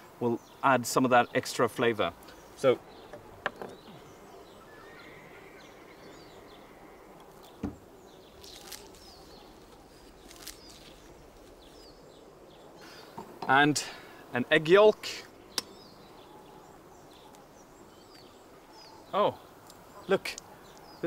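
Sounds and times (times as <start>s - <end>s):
low outdoor background noise: 0.0s - 21.0s.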